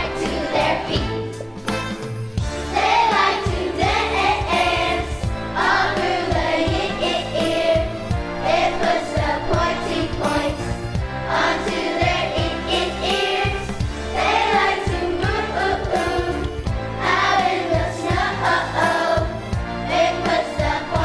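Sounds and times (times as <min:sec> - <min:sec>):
choir singing: 0:00.0 - 0:01.5, 0:02.7 - 0:21.0
instrumental accompaniment with beat: 0:00.0 - 0:21.0.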